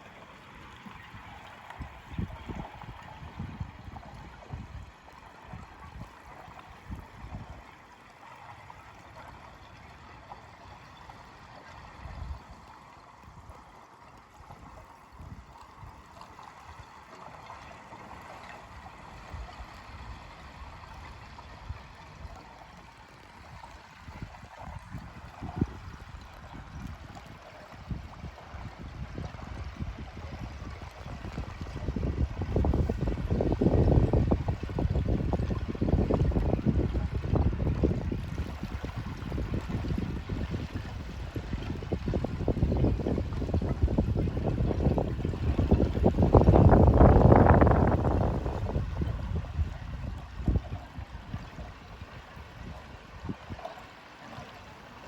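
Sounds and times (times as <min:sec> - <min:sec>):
small waves lapping against ice: 0:00.0 - 0:55.0
water gurgling and splashing: 0:00.0 - 0:55.0.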